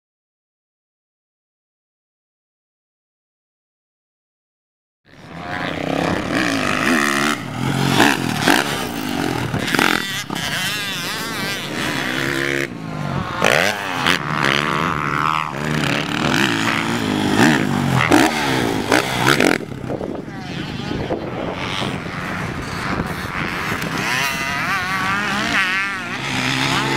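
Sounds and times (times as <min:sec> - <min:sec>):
dirt bike engine revving: 0:05.2 - 0:26.9.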